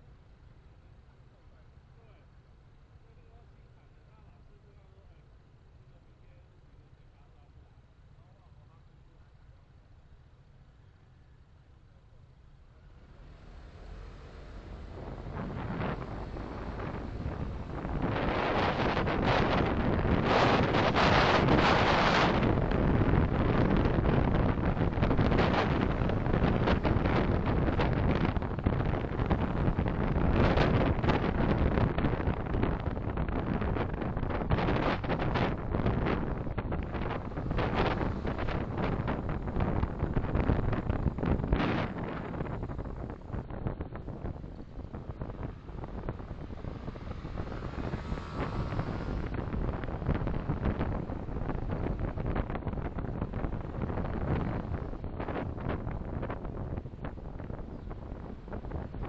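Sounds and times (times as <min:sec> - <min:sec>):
car road and wind noise: 0:00.0 - 0:59.0.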